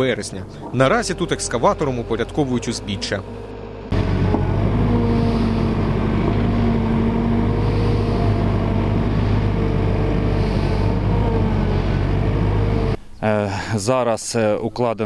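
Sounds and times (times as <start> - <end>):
excavator diesel engine running: 0.0 - 13.0
faint steady whine: 0.0 - 14.6.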